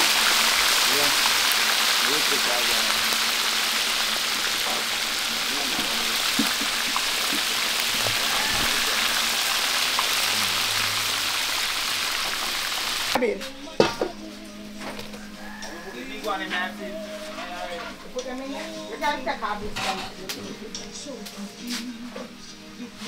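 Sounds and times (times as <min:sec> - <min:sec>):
hot oil sizzling: 0:00.0 - 0:19.2.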